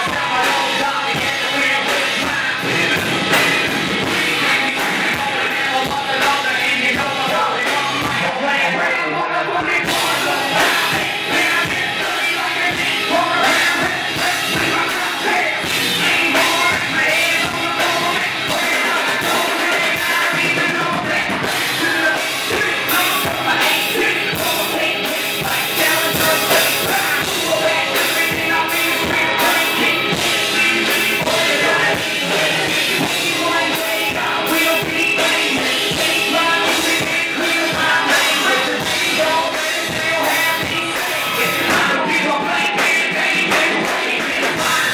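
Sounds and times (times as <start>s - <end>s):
live rock band playing: 0.0s - 9.0s, 9.6s - 44.9s
drums: 0.0s - 44.9s
electric guitar: 0.0s - 44.9s
person singing: 0.0s - 44.9s.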